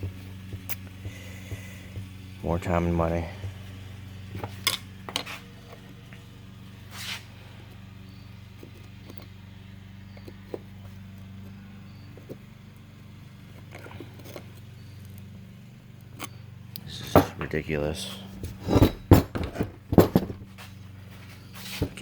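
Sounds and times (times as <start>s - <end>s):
lawnmower engine droning: 0.0s - 22.0s.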